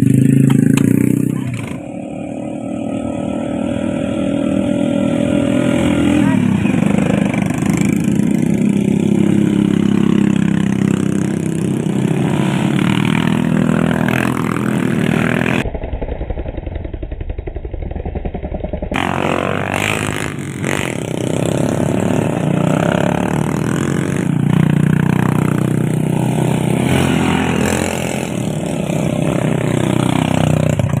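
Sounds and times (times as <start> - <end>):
motorcycle rattling: 0.0 - 31.0
small motorcycle engine revving: 0.0 - 31.0.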